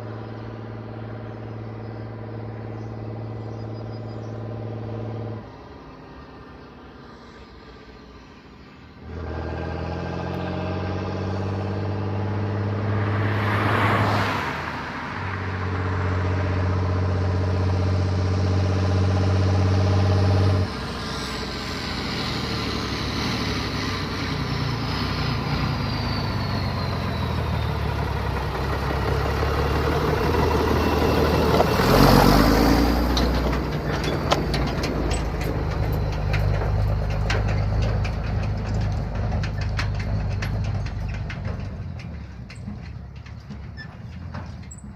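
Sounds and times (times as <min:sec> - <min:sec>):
tractor engine running: 0:00.0 - 0:07.2, 0:08.6 - 0:44.9.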